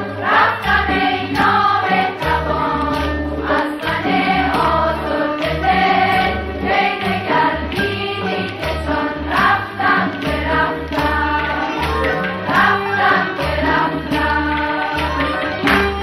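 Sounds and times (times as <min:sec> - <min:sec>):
girls' choir singing in unison: 0:00.0 - 0:15.7
instrumental accompaniment with pulsing bass: 0:00.0 - 0:16.0.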